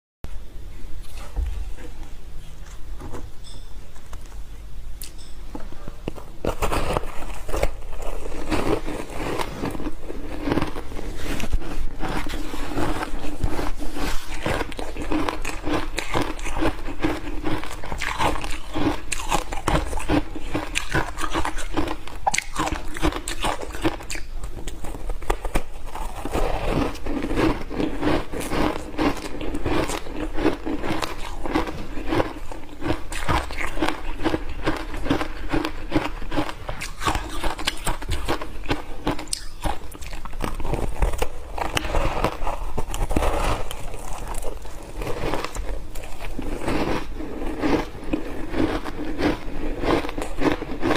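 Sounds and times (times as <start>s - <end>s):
ice being chewed with crunches: 6.1s - 50.9s.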